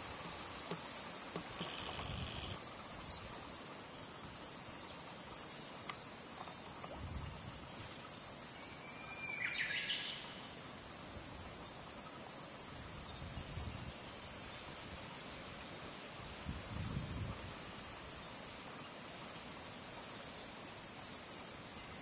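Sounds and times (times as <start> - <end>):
high-pitched insect chorus: 0.0 - 22.0
insect chirp: 0.0 - 22.0.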